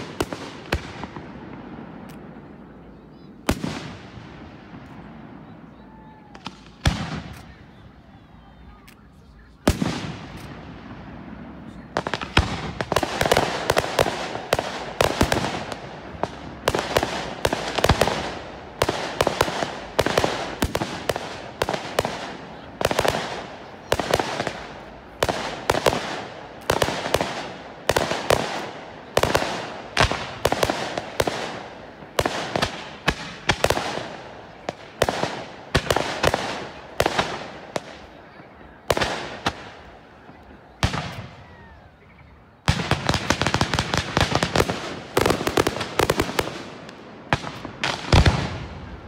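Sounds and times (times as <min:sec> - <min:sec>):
fireworks bursting with echo: 0:00.0 - 0:49.0.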